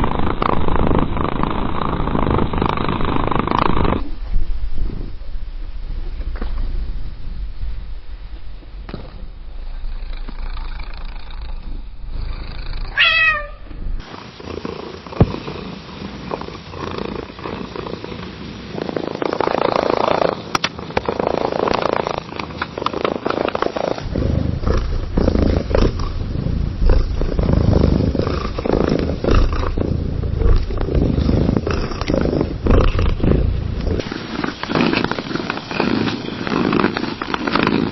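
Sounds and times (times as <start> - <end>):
cat purring: 0.0 - 5.3, 5.9 - 37.9.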